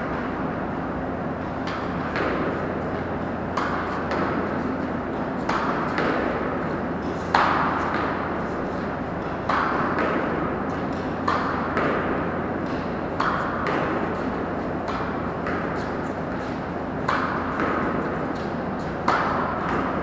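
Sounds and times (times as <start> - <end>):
racket hitting tennis ball: 1.4 - 20.0.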